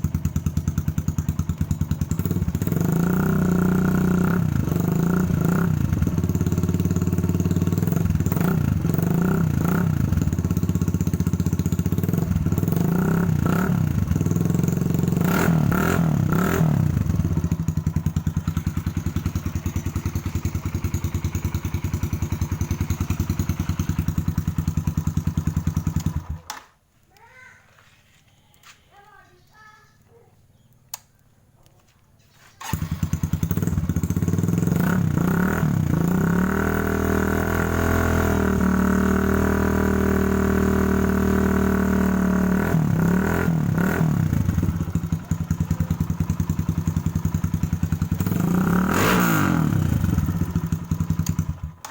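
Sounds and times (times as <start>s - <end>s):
motorcycle engine idling: 0.0s - 26.5s, 32.6s - 51.9s
motorcycle engine revving: 0.0s - 26.5s, 32.4s - 51.9s.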